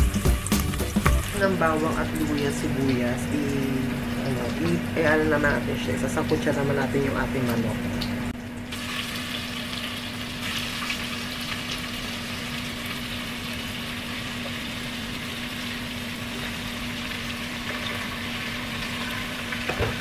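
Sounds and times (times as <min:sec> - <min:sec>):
chicken sizzling in hot oil: 0:00.0 - 0:07.1, 0:07.8 - 0:20.0.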